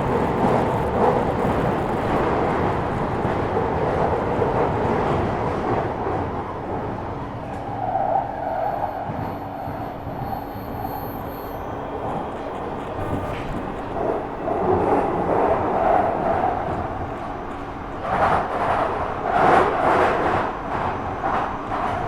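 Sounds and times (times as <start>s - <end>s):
train rushing on track: 0.0s - 22.0s.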